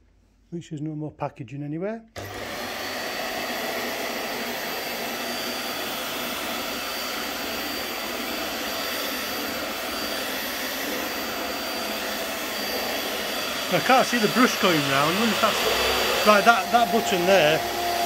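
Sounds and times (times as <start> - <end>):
vacuum cleaner running on carpet: 2.2 - 18.0.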